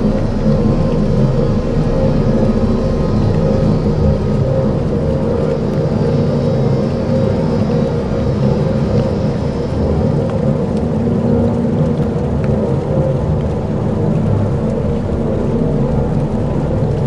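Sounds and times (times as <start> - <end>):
dark ambient drone music: 0.0 - 17.0.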